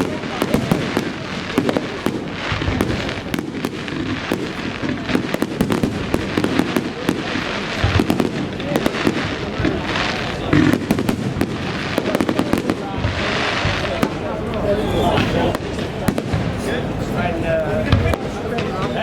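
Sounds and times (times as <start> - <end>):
crowd talking: 0.0 - 19.0
fireworks bangs and crackling pops: 0.0 - 19.0.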